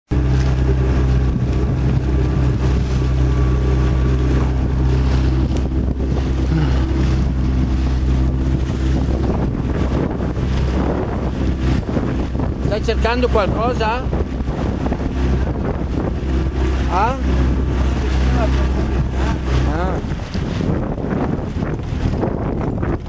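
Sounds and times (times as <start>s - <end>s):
boat motor humming: 0.1s - 23.0s
wind buffeting microphone: 0.1s - 23.0s.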